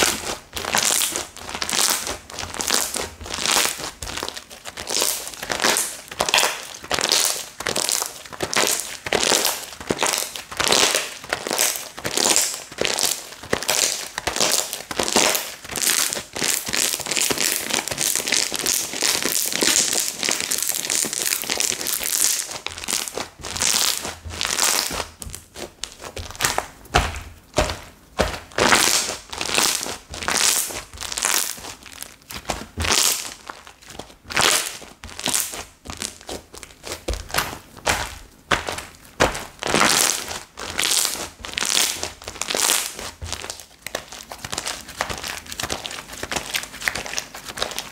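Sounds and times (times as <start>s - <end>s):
slime squishing and crackling: 0.0s - 47.9s.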